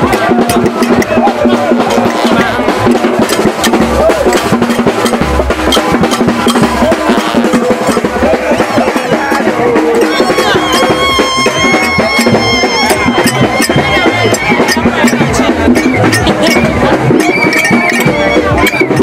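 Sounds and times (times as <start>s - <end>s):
bass drum beating: 0.0s - 19.0s
marching brass band: 0.0s - 19.0s
snare drum rolls: 0.0s - 19.0s.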